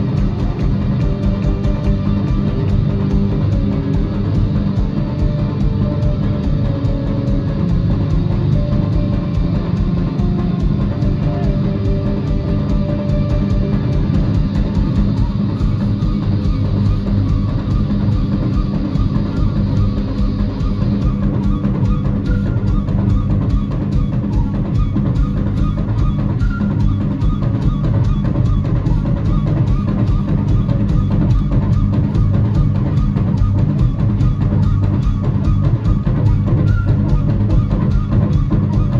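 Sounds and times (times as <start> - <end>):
drum kit beat: 0.0 - 38.9
electric guitar: 0.0 - 38.9
flute: 0.0 - 38.9.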